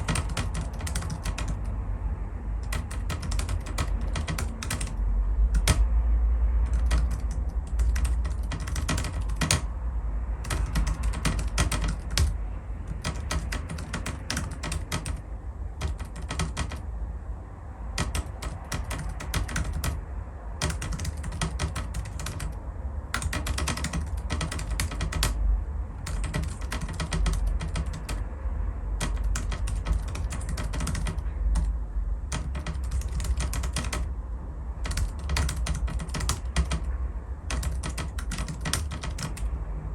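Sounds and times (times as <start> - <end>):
keyboard typing clicks: 0.0 - 1.8, 2.6 - 5.9, 6.7 - 9.7, 10.4 - 16.9, 17.9 - 20.0, 20.6 - 25.4, 26.0 - 28.3, 29.0 - 34.1, 34.8 - 36.9, 37.5 - 39.6.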